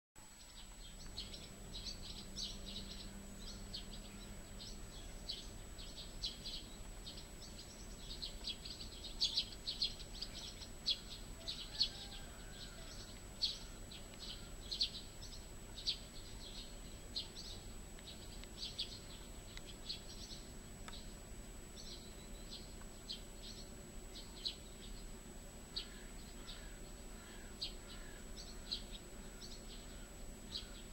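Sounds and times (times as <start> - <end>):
sparrows chirping: 0.4 - 30.9.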